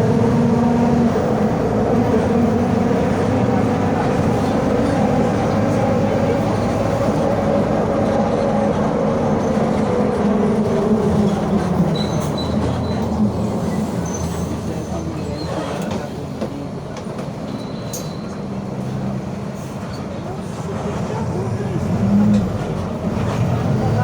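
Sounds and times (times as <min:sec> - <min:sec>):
diesel bus engine running: 0:00.0 - 0:17.5, 0:18.2 - 0:24.0.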